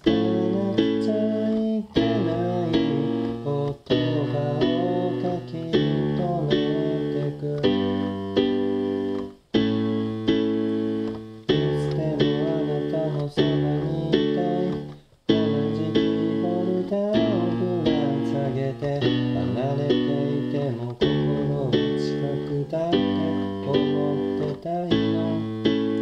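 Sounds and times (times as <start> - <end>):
electronic keyboard chords: 0.0 - 26.0.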